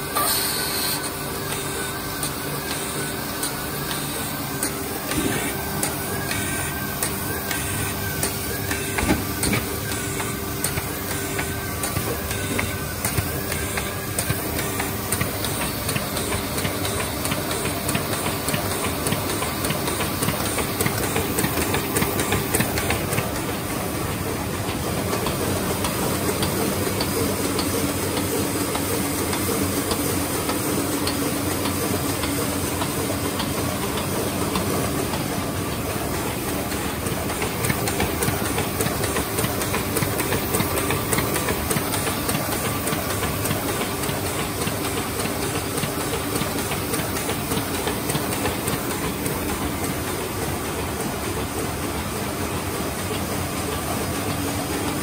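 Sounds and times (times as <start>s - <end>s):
printing press running: 0.0s - 55.0s
fast mechanical clatter: 1.4s - 55.0s.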